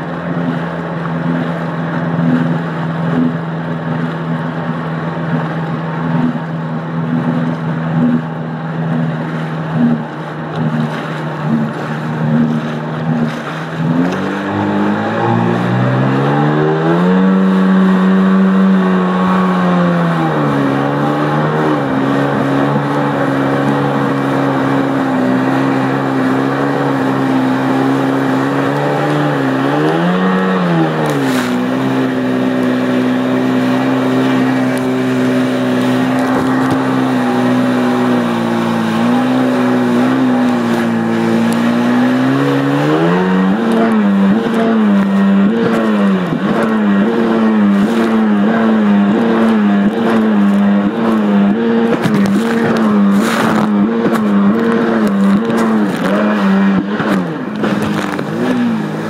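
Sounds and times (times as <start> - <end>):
watercraft engine running: 0.0 - 59.0.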